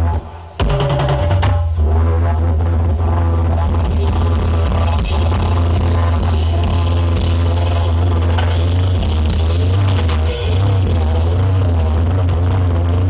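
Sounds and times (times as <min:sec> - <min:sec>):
didgeridoo drone: 0:00.0 - 0:13.0
drums and percussion: 0:00.0 - 0:13.0.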